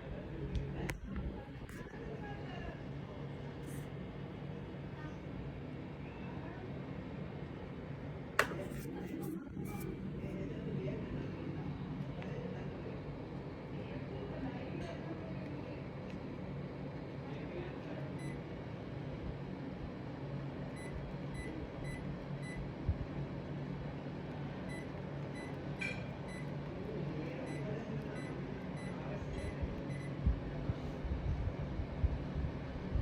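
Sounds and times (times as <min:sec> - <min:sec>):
air conditioner humming: 0:00.0 - 0:33.0.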